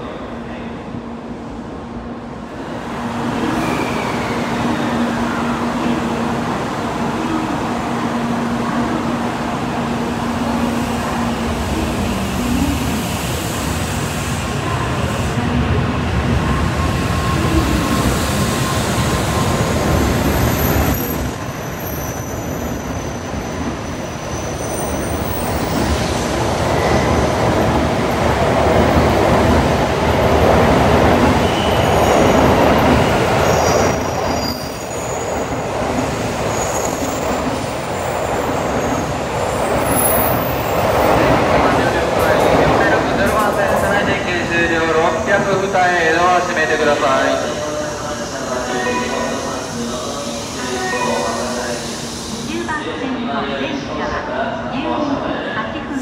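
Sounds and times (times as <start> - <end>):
high-speed train rolling past: 0.0 - 56.0.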